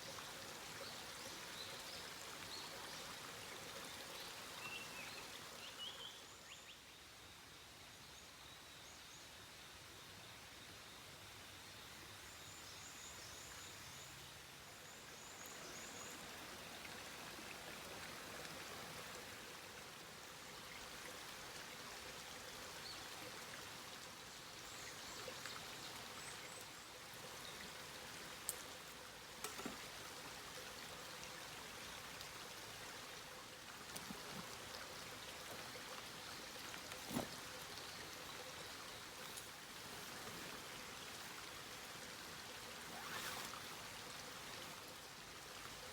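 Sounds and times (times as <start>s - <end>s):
stream water flowing: 0.0s - 6.5s, 12.8s - 45.9s.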